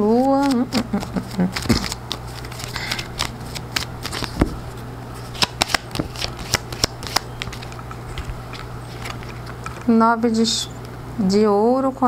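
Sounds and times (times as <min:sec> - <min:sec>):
cards being shuffled: 0:00.0 - 0:09.9.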